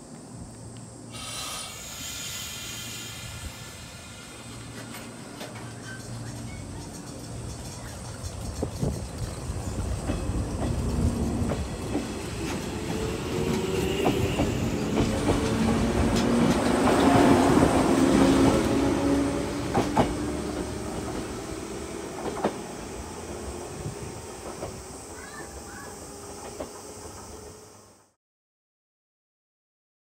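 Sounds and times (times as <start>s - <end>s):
electric train motors humming: 0.1s - 28.1s
train wheels clicking over rail joints: 1.2s - 27.7s.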